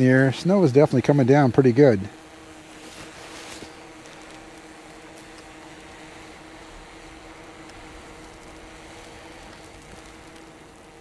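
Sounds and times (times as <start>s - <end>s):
drone propellers humming: 0.0s - 11.0s
wind hiss: 0.0s - 11.0s.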